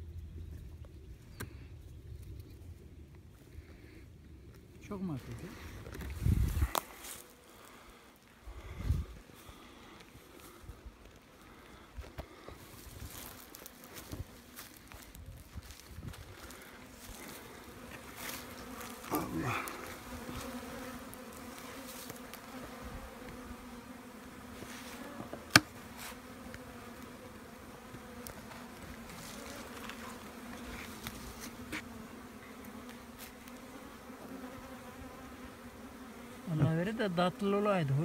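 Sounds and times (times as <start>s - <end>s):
bees buzzing: 5.4s - 38.0s.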